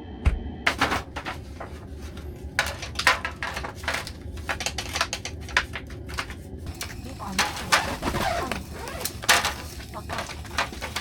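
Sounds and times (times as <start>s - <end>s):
hard objects clattering: 0.7s - 11.0s.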